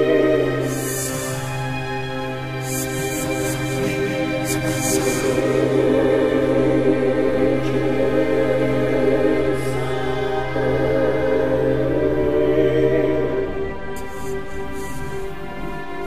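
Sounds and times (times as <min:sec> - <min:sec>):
choir-like voices holding chords: 0:00.0 - 0:16.0
low drone: 0:00.0 - 0:16.0.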